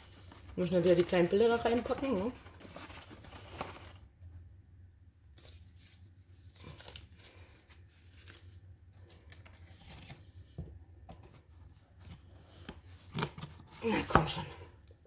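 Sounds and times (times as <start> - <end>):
paper and cardboard rustling: 0.0 - 4.1, 5.3 - 14.5.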